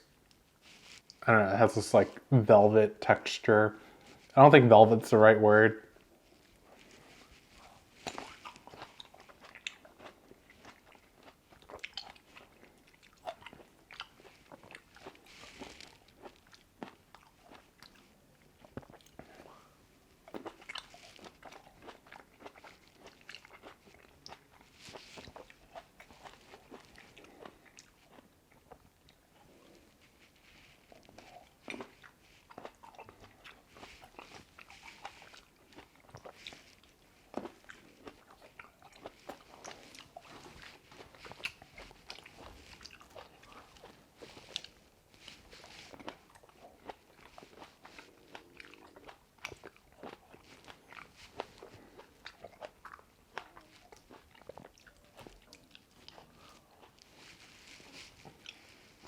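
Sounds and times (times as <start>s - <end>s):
chewing grapes: 5.1s - 59.0s.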